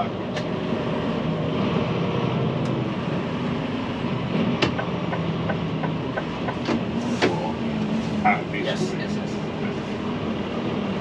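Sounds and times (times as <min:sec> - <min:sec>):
truck engine running: 0:00.1 - 0:11.0.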